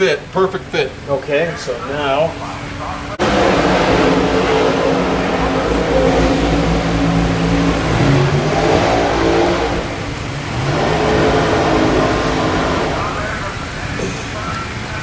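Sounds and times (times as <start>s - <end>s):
vehicle engine revving: 1.8s - 15.0s.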